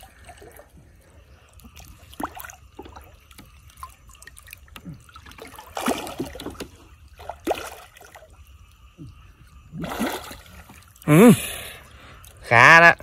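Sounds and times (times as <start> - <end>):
shallow water sloshing and splashing: 0.0 - 11.1.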